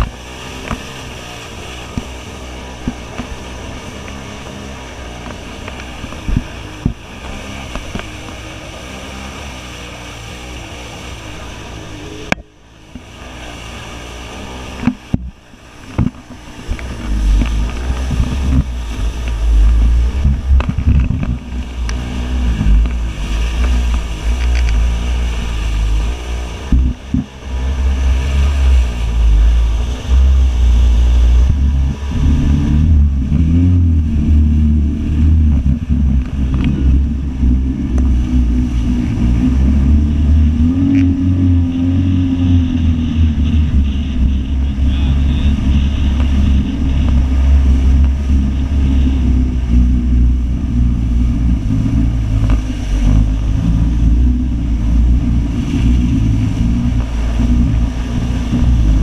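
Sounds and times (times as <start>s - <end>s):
jet ski engine droning: 0.0s - 59.0s
rushing water: 0.0s - 59.0s
wind buffeting on microphone: 0.0s - 59.0s.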